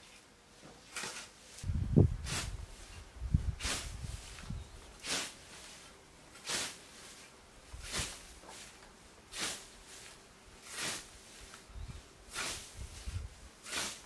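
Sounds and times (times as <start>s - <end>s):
scythe swishing through grass: 0.8s - 14.0s.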